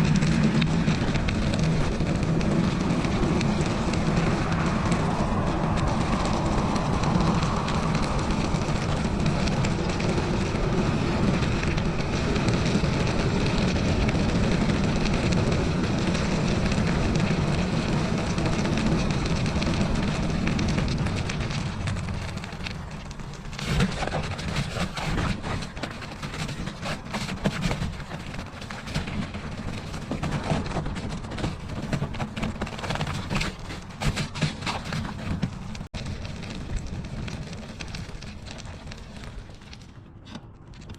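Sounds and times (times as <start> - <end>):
snow crunching: 0.0 - 40.0
bicycle tyres rolling: 0.0 - 40.9
wind on microphone: 0.0 - 40.9.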